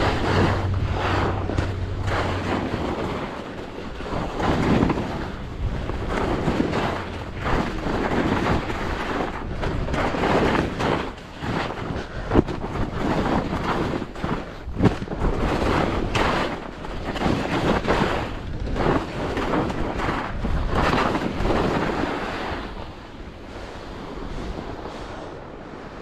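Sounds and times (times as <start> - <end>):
skis scraping on packed snow: 0.0 - 26.0
wind buffeting microphone: 0.0 - 26.0.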